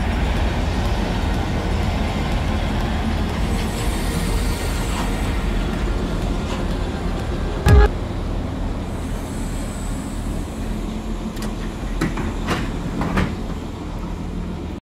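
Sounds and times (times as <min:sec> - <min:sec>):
train rumbling at platform: 0:00.0 - 0:14.8.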